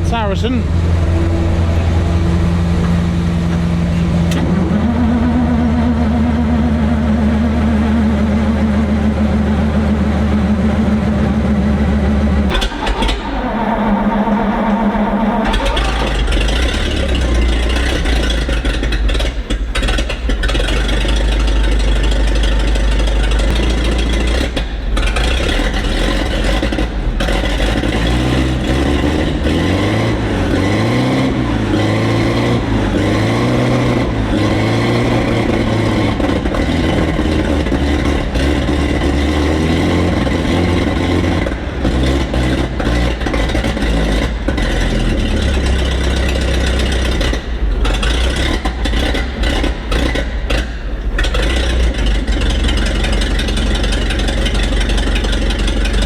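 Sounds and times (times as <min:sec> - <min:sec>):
engine revving up and down: 0:00.0 - 0:20.8, 0:23.3 - 0:56.0.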